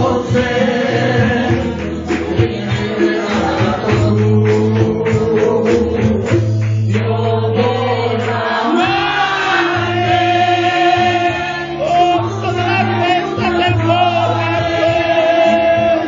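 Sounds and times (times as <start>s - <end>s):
group singing worship song: 0.0s - 16.0s
low instrumental backing: 0.0s - 16.0s.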